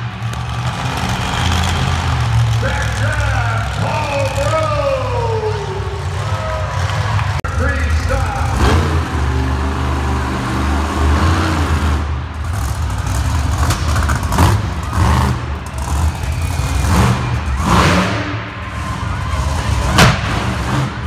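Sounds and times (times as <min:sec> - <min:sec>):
monster truck engines revving: 0:00.0 - 0:21.0.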